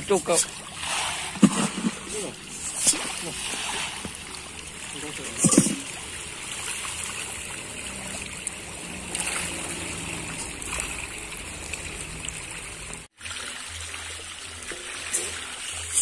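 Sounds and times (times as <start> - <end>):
fish splashing water: 0.4 - 16.0.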